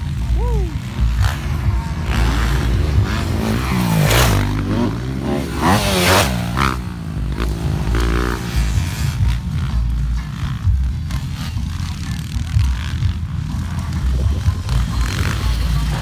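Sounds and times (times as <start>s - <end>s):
dirt bike engines revving past: 0.0s - 16.0s.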